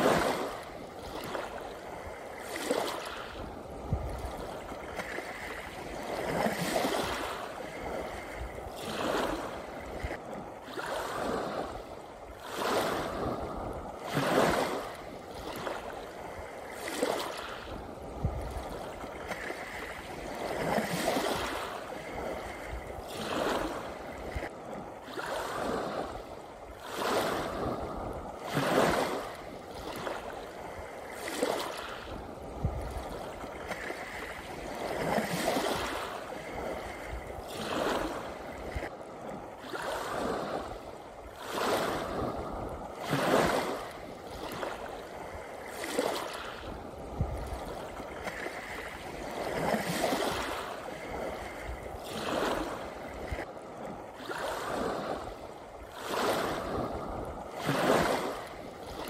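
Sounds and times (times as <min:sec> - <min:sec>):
waves breaking against shore: 0:00.0 - 0:59.0.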